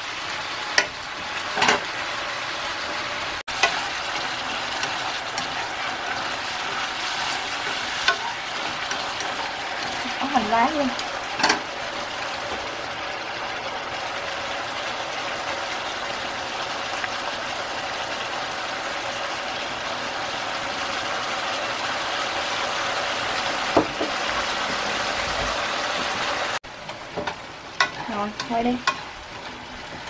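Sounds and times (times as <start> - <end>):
food sizzling in a frying pan: 0.0 - 30.0.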